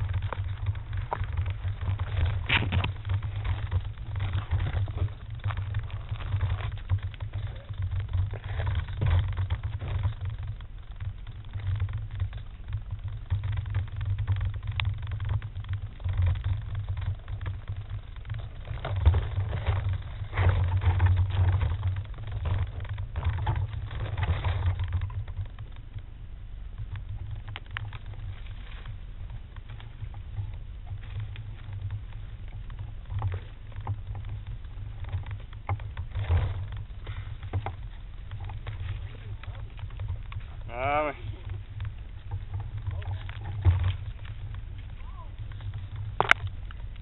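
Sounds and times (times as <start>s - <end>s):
branches scraping and knocking: 0.0s - 47.0s
leaves rustling: 0.0s - 47.0s
low rumbling: 0.0s - 47.0s.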